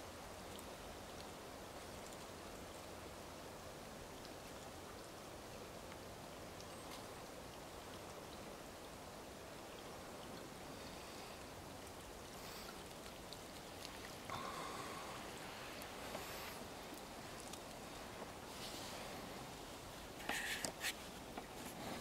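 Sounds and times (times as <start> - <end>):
creek flowing over rocks: 0.0 - 22.0.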